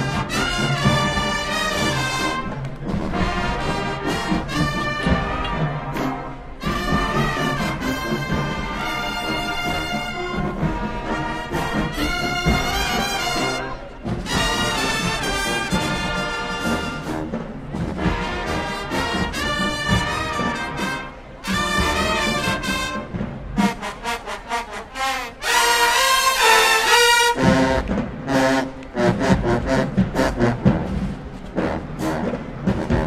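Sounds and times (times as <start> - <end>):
marching band brass chords: 0.0 - 33.0.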